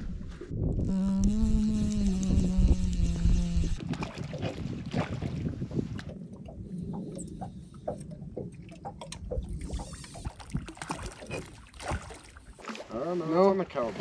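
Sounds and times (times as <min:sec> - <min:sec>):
water splashing around boat hull: 0:00.3 - 0:14.0.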